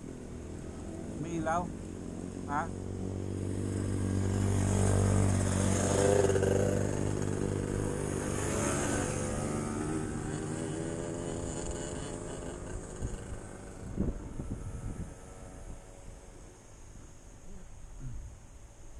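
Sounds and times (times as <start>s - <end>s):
vehicle engine revving: 0.0s - 16.7s.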